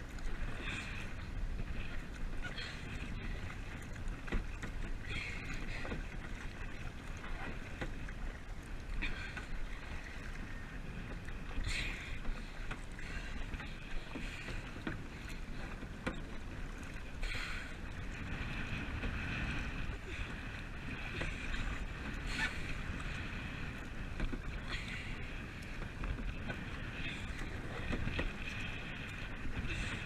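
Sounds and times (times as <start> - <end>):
kayak paddle splashing: 0.0 - 30.0
wind rumble on microphone: 0.0 - 30.0.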